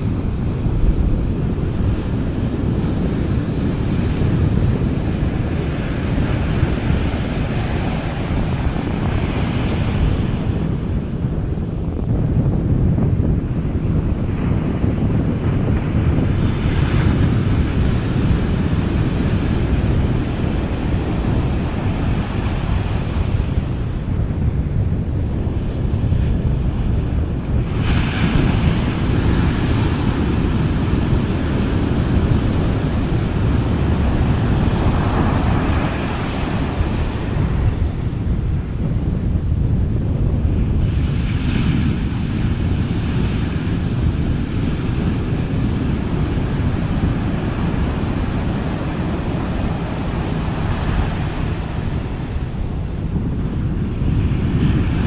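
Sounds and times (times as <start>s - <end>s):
sea waves breaking on beach: 0.0s - 11.7s, 13.2s - 55.0s
wind on microphone: 0.0s - 55.0s.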